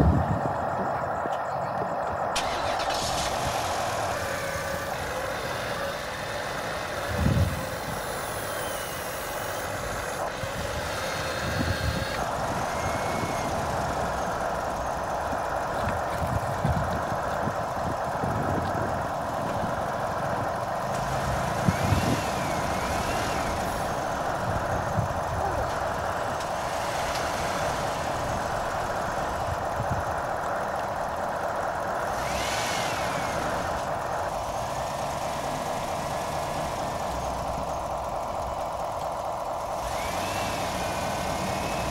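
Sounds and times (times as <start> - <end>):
simulated diesel engine idling: 0.0 - 41.9.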